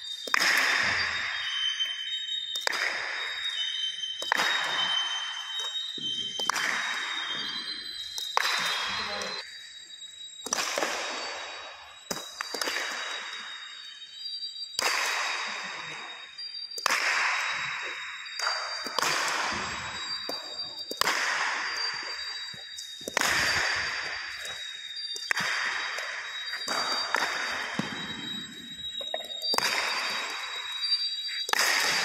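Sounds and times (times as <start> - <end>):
faint high whine: 0.0 - 32.0.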